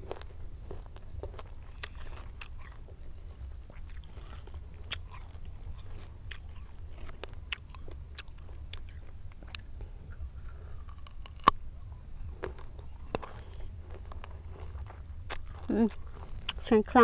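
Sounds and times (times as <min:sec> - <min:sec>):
crunchy chewing: 0:00.0 - 0:17.0
low rumble: 0:00.0 - 0:17.0.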